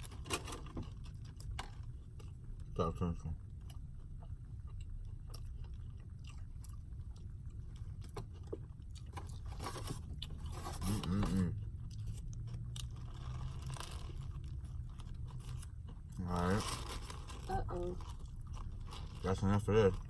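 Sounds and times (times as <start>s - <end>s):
person chewing with soft crunches: 0.7s - 20.0s.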